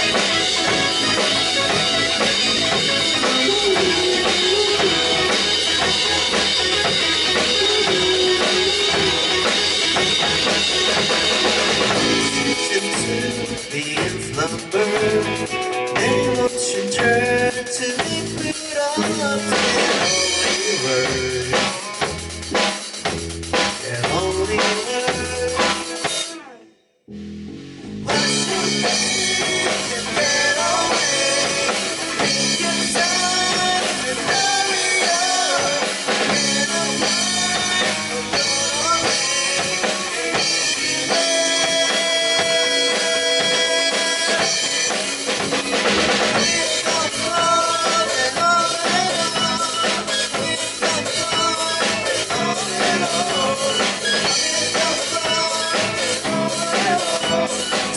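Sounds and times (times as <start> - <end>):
drum kit: 0.0 - 26.6, 27.9 - 57.9
rock band playing: 0.0 - 57.9.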